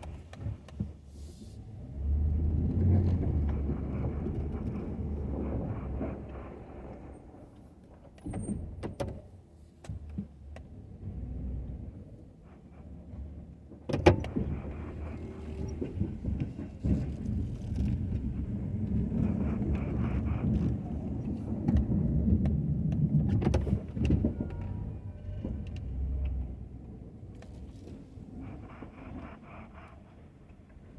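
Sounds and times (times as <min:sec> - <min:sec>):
truck engine rumble: 0:00.0 - 0:30.9.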